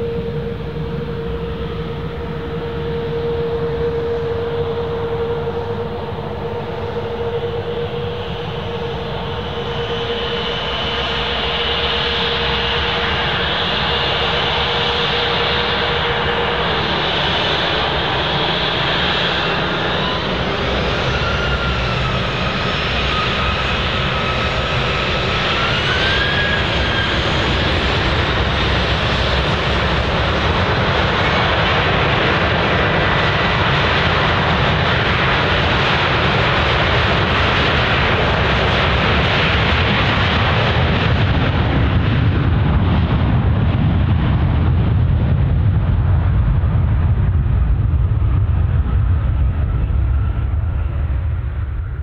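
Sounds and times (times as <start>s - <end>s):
jet engines roaring at takeoff: 0.0s - 52.0s.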